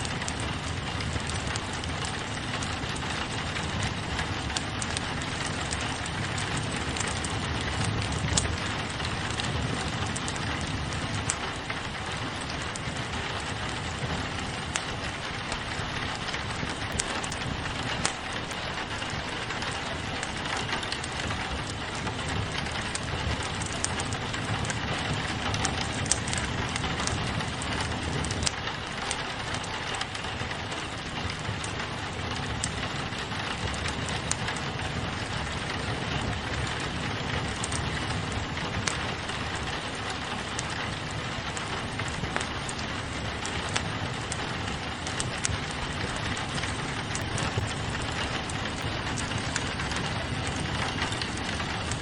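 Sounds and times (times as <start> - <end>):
rain against a window: 0.0 - 52.0
wood fire crackling: 0.0 - 52.0.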